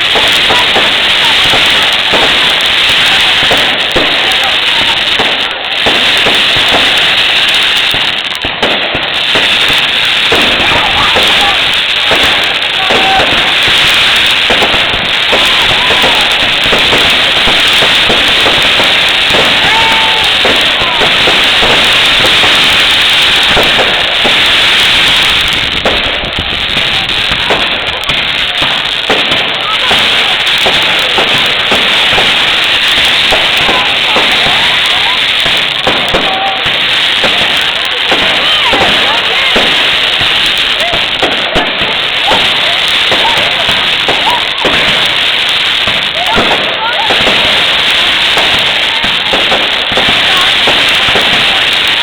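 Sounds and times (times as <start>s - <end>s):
fireworks bangs and crackles: 0.0s - 52.0s
loud hiss: 0.0s - 52.0s.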